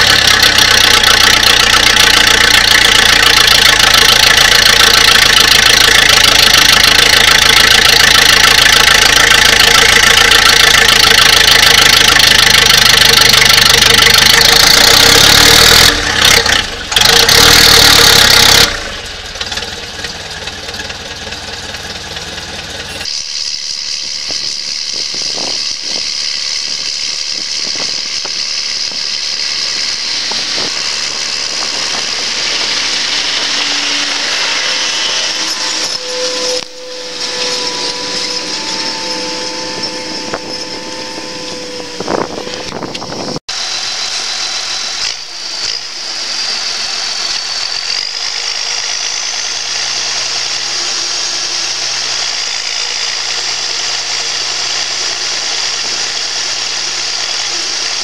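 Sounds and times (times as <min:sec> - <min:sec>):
machinery whine: 0:00.0 - 0:58.0
tractor engine running: 0:00.0 - 0:58.0.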